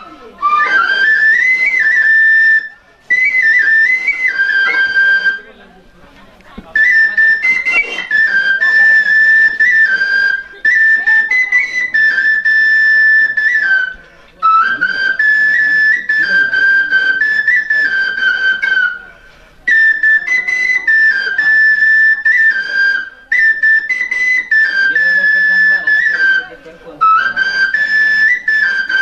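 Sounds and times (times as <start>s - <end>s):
end-blown flute melody: 0.0s - 5.5s, 6.8s - 19.1s, 19.7s - 29.0s.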